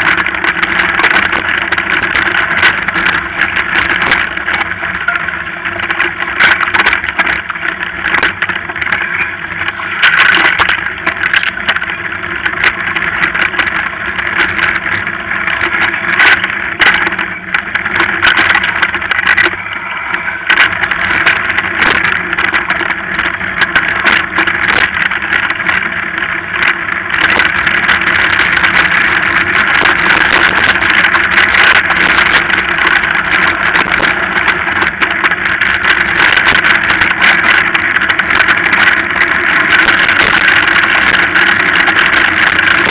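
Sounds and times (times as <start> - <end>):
rattling and knocks over bumps: 0.0 - 19.8, 20.5 - 42.9
bike rumbling over rough trail: 0.0 - 42.9.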